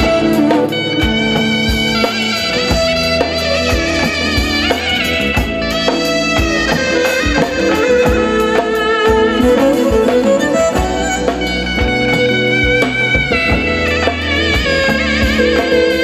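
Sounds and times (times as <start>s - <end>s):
drum kit beat: 0.0s - 16.0s
reed pipe melody: 0.0s - 16.0s
bowed fiddle: 1.9s - 16.0s.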